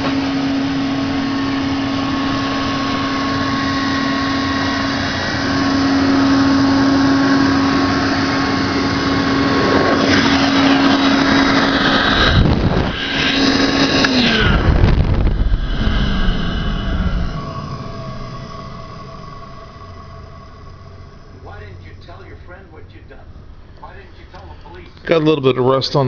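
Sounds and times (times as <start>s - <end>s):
vacuum cleaner motor whine: 0.0s - 22.6s
rumbling and shifting noise: 0.0s - 26.0s.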